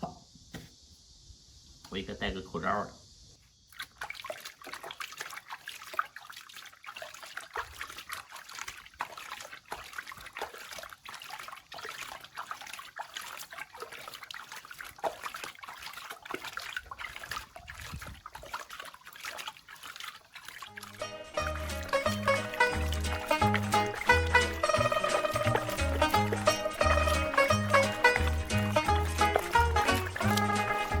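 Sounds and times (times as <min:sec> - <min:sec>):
water trickling and splashing: 0:03.5 - 0:31.0.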